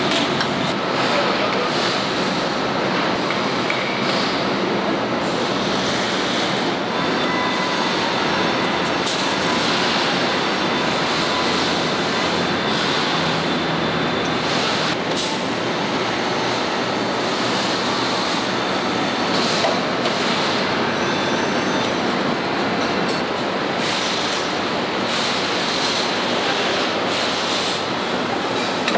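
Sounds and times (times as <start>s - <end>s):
assembly line machinery running: 0.0s - 28.9s.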